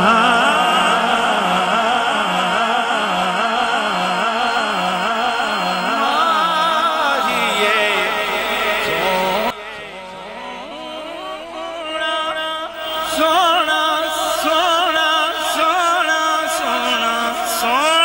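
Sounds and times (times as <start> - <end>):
man singing into microphone: 0.0 - 18.0.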